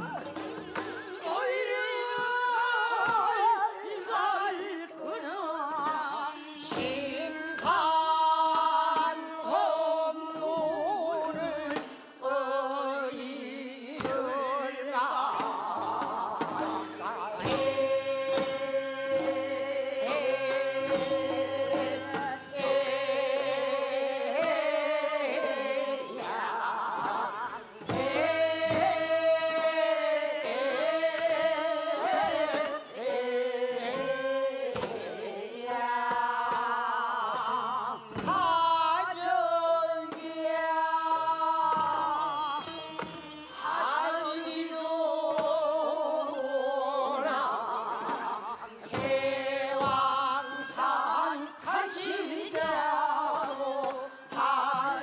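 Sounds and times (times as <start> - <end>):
person singing with vibrato: 0.0 - 55.0
traditional instrumental accompaniment: 0.0 - 55.0.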